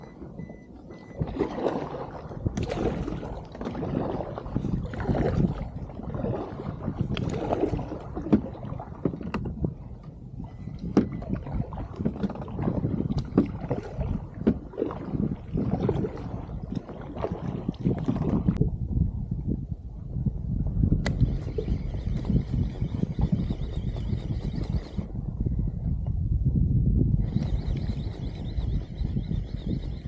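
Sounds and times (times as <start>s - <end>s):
water lapping against boat hull: 0.0s - 18.7s, 20.5s - 26.2s, 27.2s - 30.0s.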